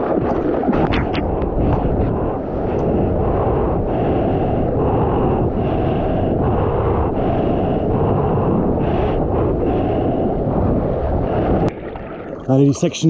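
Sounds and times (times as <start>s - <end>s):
water rushing around surfboard: 0.0s - 12.9s
wind buffeting microphone: 0.0s - 13.0s.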